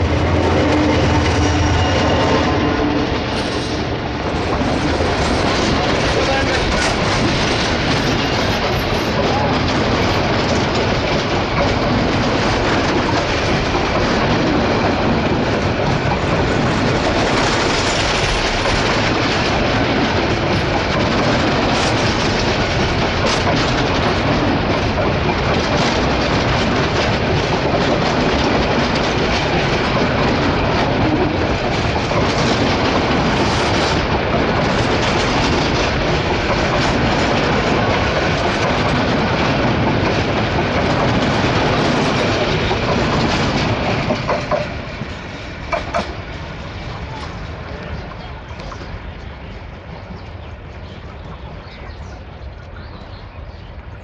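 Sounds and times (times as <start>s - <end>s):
clickety-clack over rail joints: 0.0s - 54.0s
train wheels on rail: 0.0s - 54.0s.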